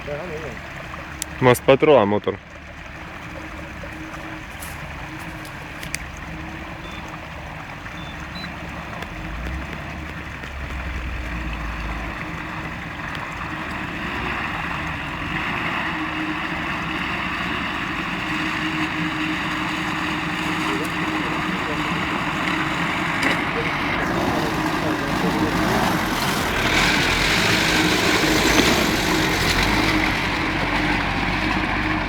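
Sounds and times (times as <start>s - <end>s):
off-road engine under load: 0.0s - 32.0s.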